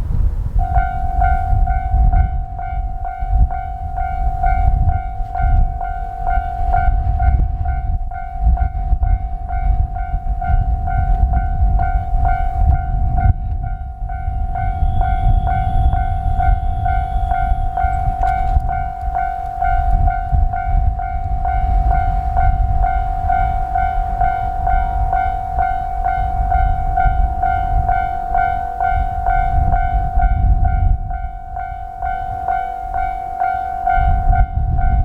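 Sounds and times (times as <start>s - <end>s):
train rumbling past: 0.0s - 35.0s
level crossing bell ringing: 0.6s - 13.0s, 14.0s - 35.0s.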